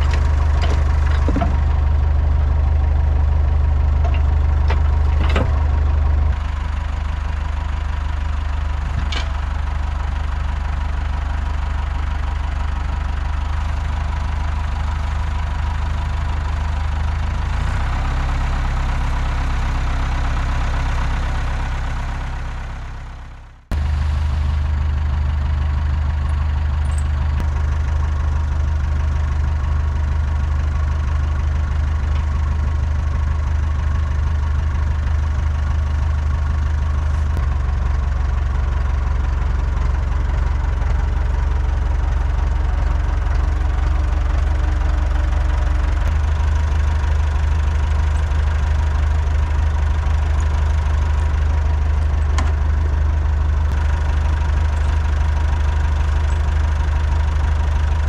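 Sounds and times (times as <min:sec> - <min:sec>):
diesel tractor idling: 0:00.0 - 0:58.0.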